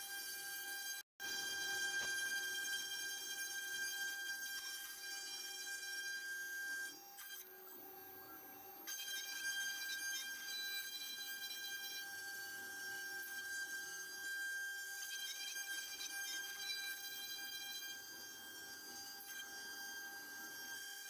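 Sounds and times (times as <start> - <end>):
milling machine high-pitched whine: 1.2 - 21.0.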